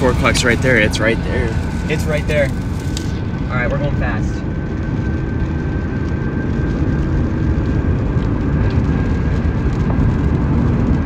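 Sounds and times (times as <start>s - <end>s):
road and wind noise inside car: 0.0s - 11.0s.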